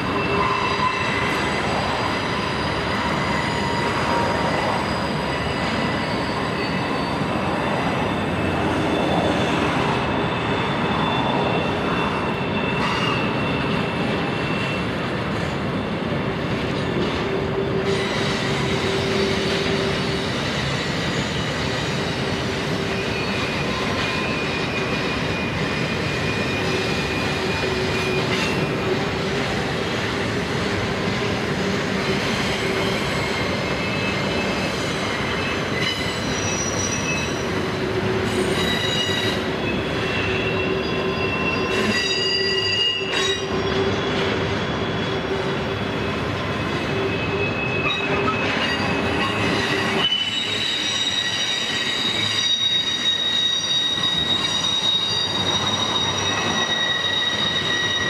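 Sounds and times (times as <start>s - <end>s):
steel wheels squealing: 0.0s - 58.0s
train wheels rumbling on rail: 0.0s - 58.0s.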